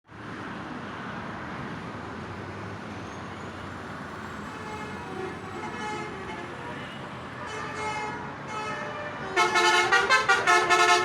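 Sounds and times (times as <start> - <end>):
road traffic rush: 0.1 - 11.0.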